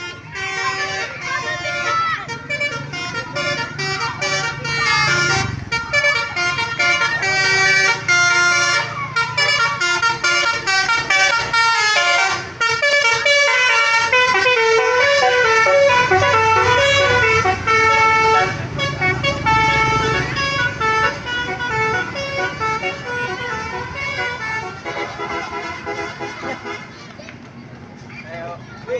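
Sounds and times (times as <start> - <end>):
bus horn playing melody: 0.0 - 26.9
low engine hum: 2.5 - 28.9.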